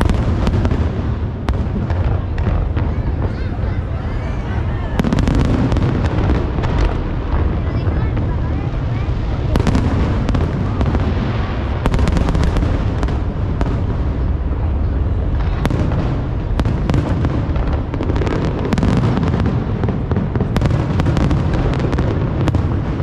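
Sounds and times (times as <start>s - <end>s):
fireworks booming: 0.0s - 23.0s
fireworks crackling pops: 0.0s - 23.0s.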